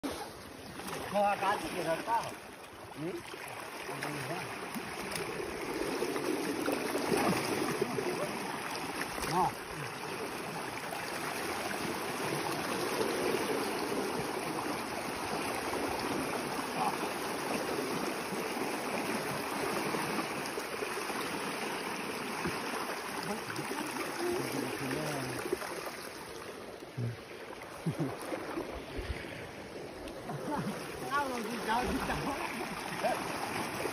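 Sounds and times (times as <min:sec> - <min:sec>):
river rushing and churning: 0:00.0 - 0:33.9.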